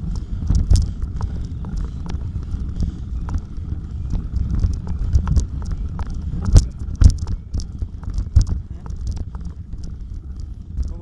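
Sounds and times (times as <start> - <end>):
bicycle clicking and rattling: 0.0 - 11.0
heavy low rumble: 0.0 - 11.0.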